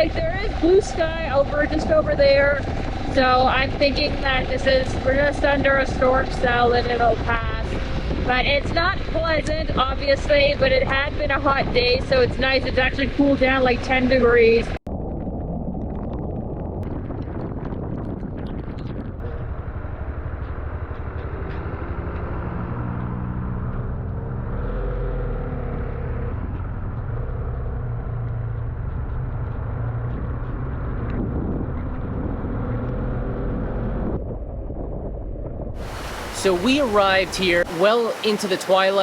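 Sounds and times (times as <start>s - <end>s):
motorcycle engine running: 0.0s - 14.3s, 16.9s - 34.1s
wind and road noise: 0.0s - 39.0s.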